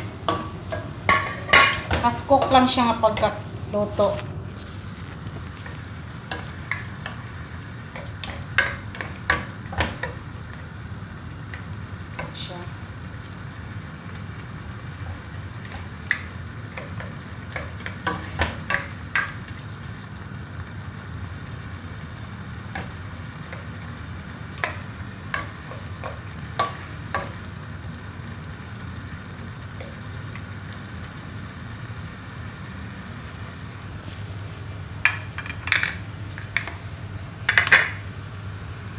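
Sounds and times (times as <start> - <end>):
sauce bubbling in a pot: 4.4 - 38.9.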